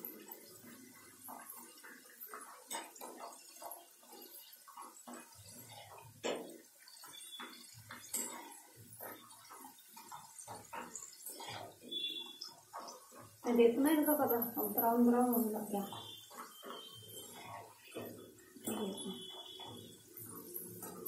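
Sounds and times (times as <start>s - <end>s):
fries sizzling in hot oil: 0.0s - 21.0s.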